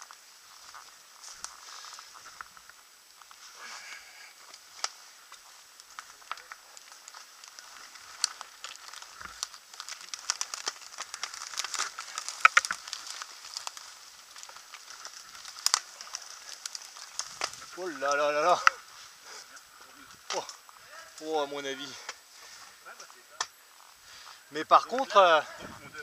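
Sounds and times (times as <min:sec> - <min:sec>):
leaves and twigs crackling under tyres: 0:00.0 - 0:26.0.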